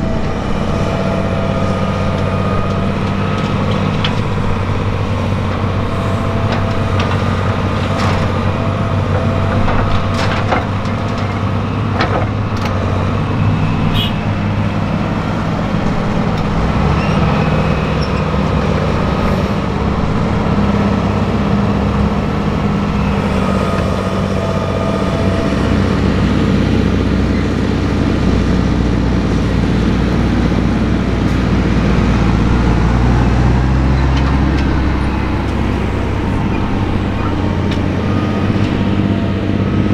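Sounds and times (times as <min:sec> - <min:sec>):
diesel engines rumbling: 0:00.0 - 0:39.9.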